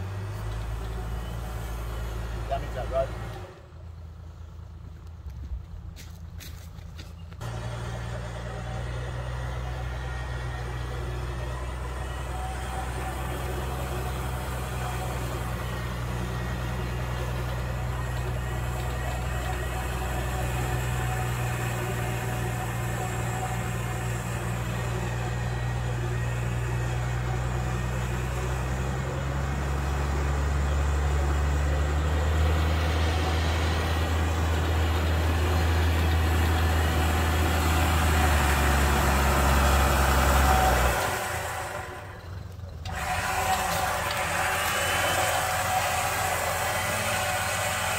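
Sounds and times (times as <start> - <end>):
vehicle engine humming: 0.0 - 47.9.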